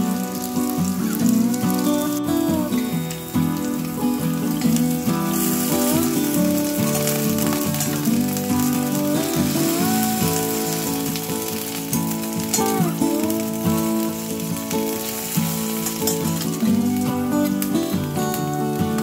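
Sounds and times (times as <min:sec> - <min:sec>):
potatoes sizzling in hot oil: 0:00.0 - 0:19.0.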